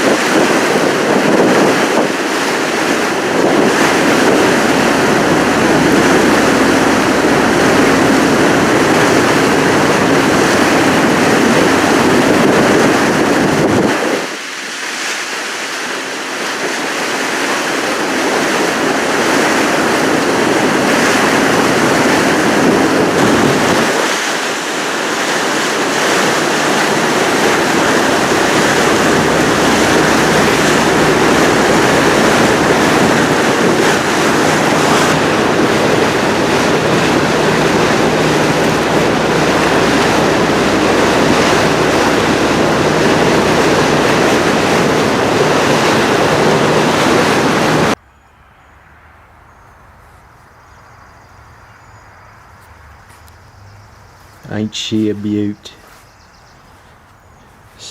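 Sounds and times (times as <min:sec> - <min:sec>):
loud steady rushing noise: 0:00.0 - 0:48.0, 0:57.4 - 0:57.9.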